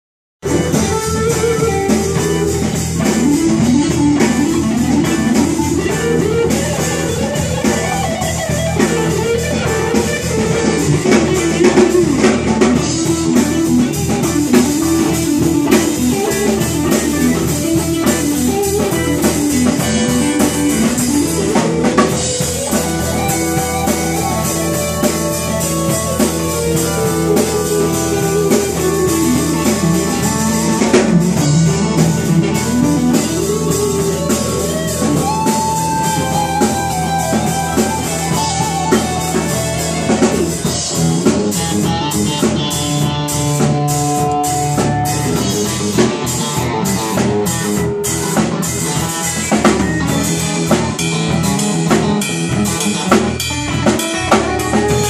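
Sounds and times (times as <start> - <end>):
drum kit playing: 0.4 - 55.0
electric guitar lead lines: 0.4 - 55.0.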